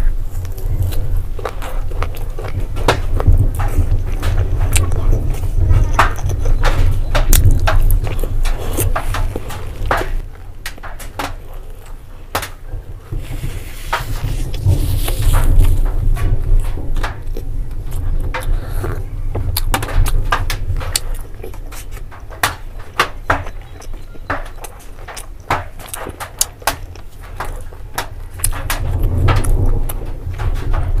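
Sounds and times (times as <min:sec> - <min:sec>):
rain on a metal roof: 0:00.0 - 0:31.0
wet chewing clicks and smacks: 0:00.3 - 0:12.7, 0:14.5 - 0:30.1.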